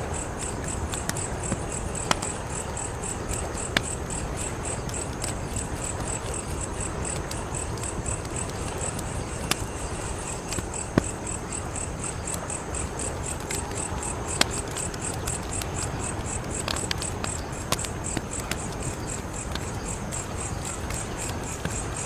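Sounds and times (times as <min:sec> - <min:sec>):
crickets chirping: 0:00.0 - 0:22.0
wood fire crackling and popping: 0:00.0 - 0:22.0.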